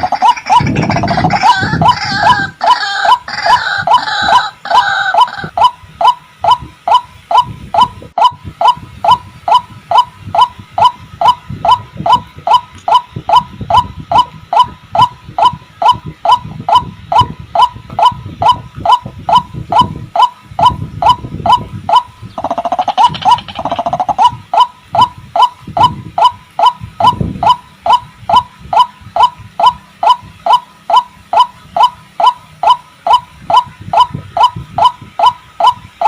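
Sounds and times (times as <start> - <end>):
waterhen calling: 0.0 - 8.0, 11.2 - 35.8.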